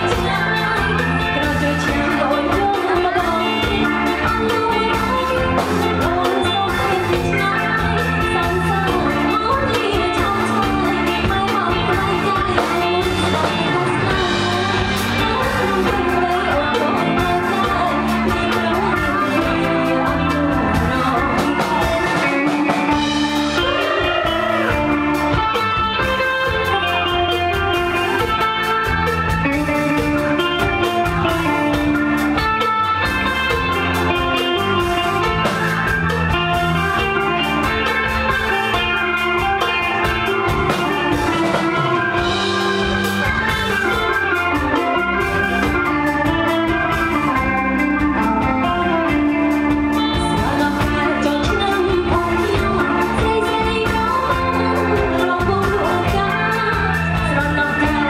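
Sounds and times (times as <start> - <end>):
drum kit: 0.0 - 58.0
guitar: 0.0 - 58.0
live band playing pop: 0.0 - 58.0.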